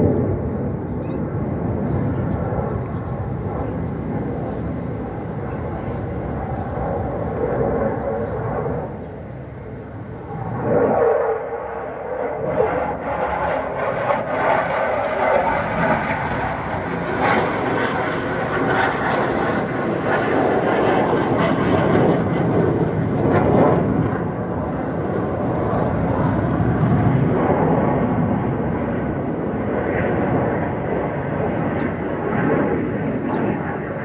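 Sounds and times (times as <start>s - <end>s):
fighter jet flying overhead: 0.0s - 34.0s.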